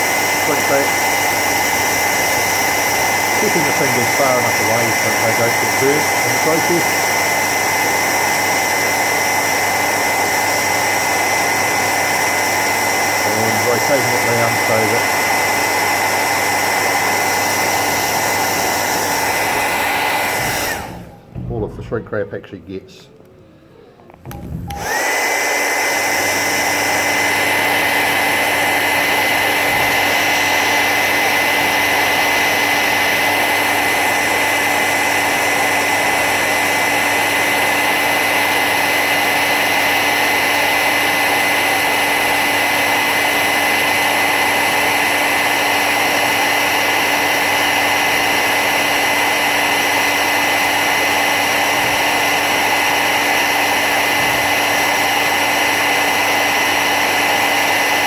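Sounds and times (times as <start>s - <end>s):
hairdryer running with high whine: 0.0s - 21.4s, 24.2s - 58.0s.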